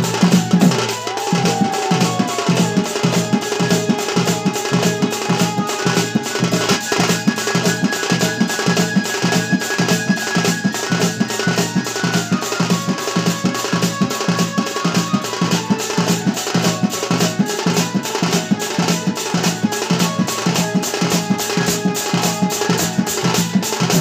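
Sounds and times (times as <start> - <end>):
dhol drumming: 0.0 - 24.0.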